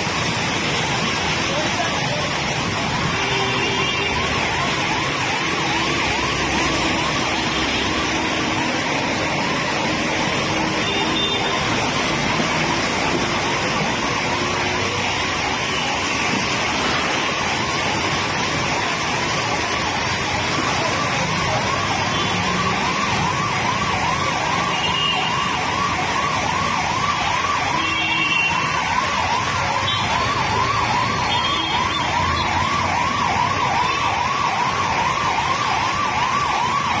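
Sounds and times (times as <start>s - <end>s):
emergency siren yelping: 0.0s - 37.0s
street noise: 0.0s - 37.0s.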